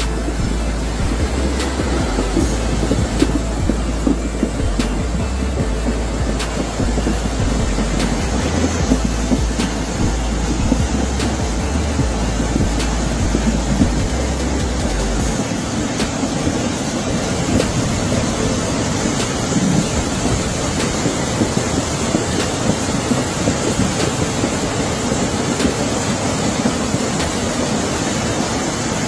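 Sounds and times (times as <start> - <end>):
hurricane wind and water rushing: 0.0 - 29.0.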